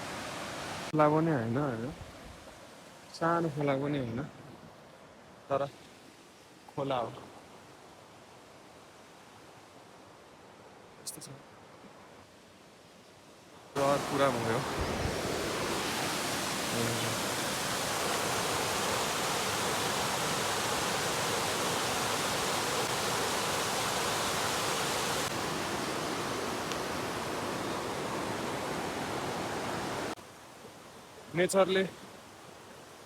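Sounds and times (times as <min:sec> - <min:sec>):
stream rushing: 0:00.0 - 0:33.0.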